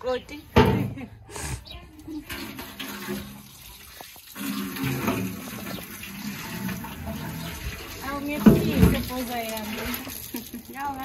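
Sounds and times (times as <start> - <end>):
water pouring and splashing: 2.0 - 11.0.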